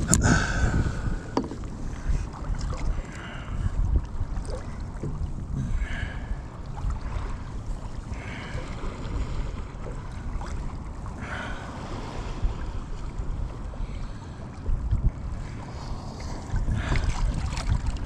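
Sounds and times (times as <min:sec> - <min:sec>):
water moving around kayak: 0:00.0 - 0:18.0
wind buffeting microphone: 0:00.0 - 0:18.0.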